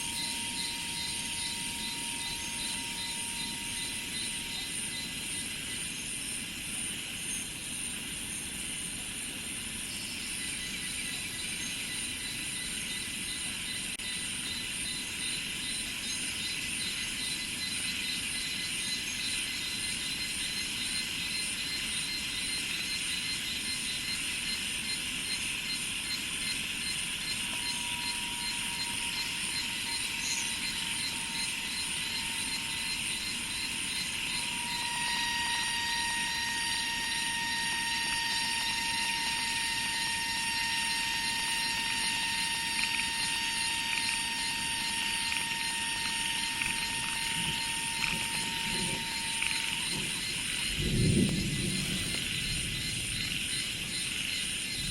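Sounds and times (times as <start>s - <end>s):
insects buzzing: 0.0s - 54.9s
thin whine: 0.0s - 54.9s.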